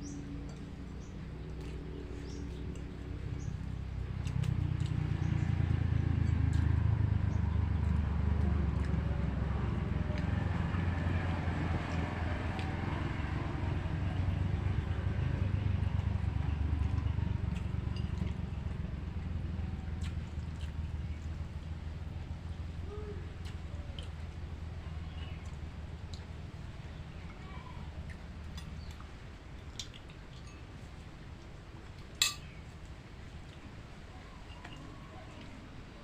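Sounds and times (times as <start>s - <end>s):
vehicle engine rumble passing: 0.0s - 31.1s.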